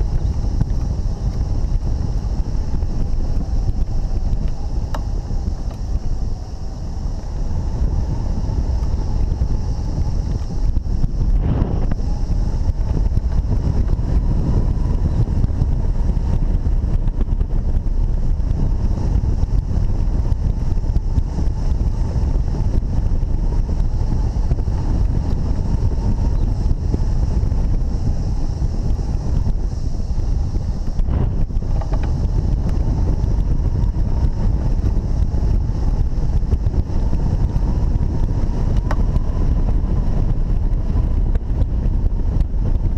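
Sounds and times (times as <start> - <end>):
strong wind buffeting microphone: 0.0 - 42.9.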